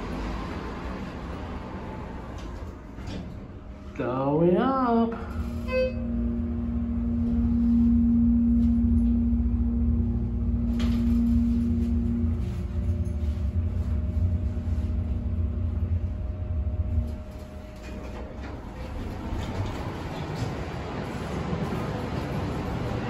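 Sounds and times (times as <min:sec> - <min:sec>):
elevator rumble and drive hum: 0:00.0 - 0:23.0.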